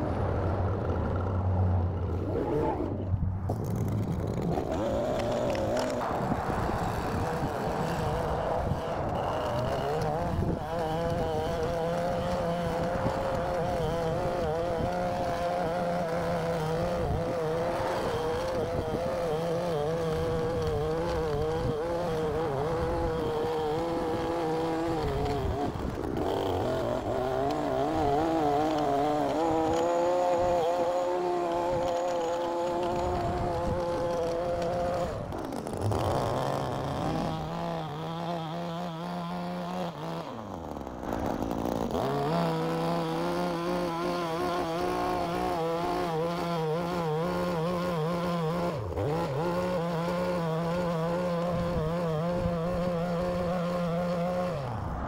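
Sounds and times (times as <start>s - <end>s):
lawn edger engine running: 3.4s - 55.0s.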